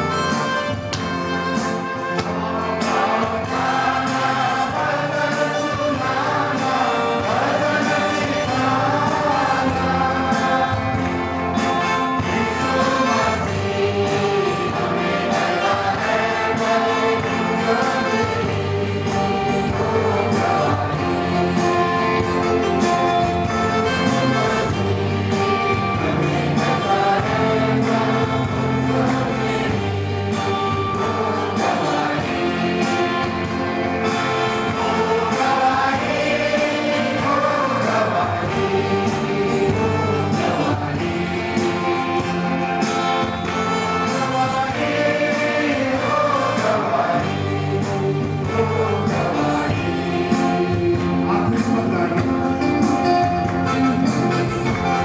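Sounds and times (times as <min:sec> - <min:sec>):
congregation singing a hymn: 0:00.0 - 0:55.0
electric guitar: 0:00.0 - 0:55.0
keyboard with steady beat: 0:00.0 - 0:55.0.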